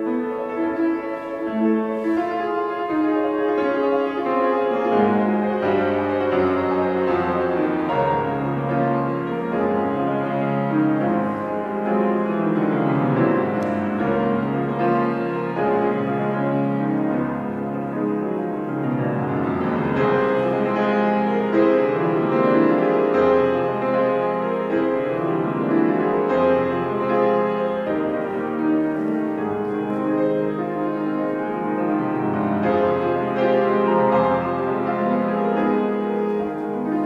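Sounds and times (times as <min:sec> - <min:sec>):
grand piano slow chords: 0:00.0 - 0:37.0.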